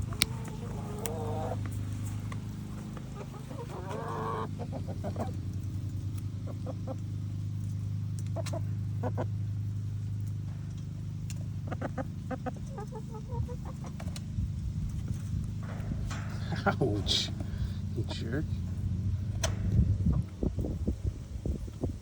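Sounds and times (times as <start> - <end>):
chickens clucking: 0.0 - 22.0
steady low hum: 0.0 - 22.0.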